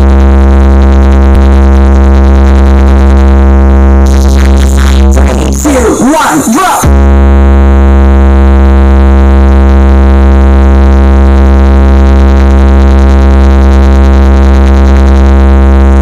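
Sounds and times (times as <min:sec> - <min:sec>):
deep bass drone: 0:00.0 - 0:06.0, 0:06.8 - 0:16.0.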